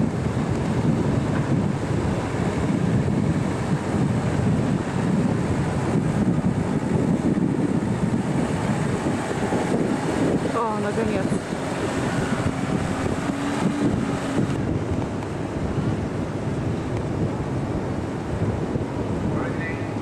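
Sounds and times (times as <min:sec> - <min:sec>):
vehicle engine straining: 0:00.0 - 0:20.0
wind buffeting microphone: 0:00.0 - 0:20.0.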